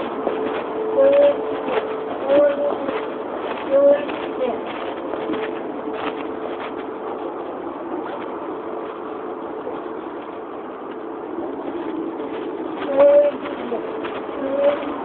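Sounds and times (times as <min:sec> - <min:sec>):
muffled street traffic: 0:00.0 - 0:15.0.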